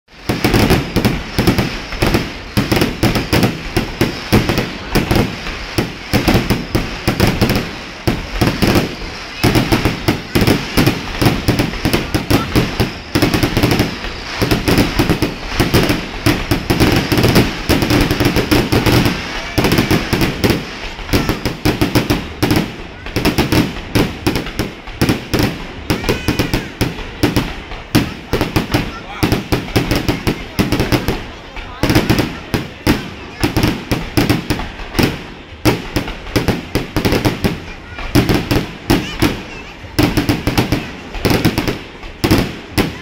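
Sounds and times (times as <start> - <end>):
fireworks bangs and crackles: 0.1 - 43.0.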